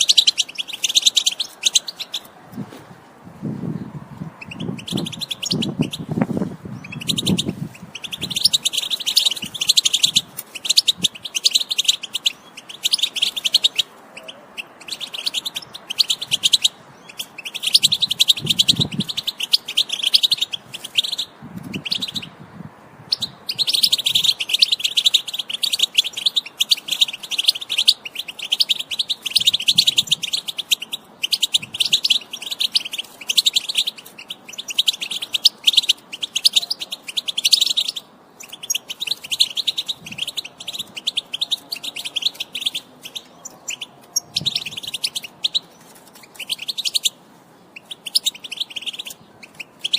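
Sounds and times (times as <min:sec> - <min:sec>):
bird twittering song: 0:00.0 - 0:02.4, 0:03.6 - 0:22.4, 0:23.1 - 0:49.9.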